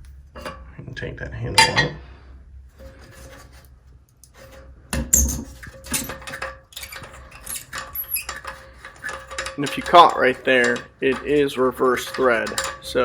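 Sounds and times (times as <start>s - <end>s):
handle clicking and scraping: 0.0s - 0.7s, 1.5s - 2.0s, 2.8s - 13.0s.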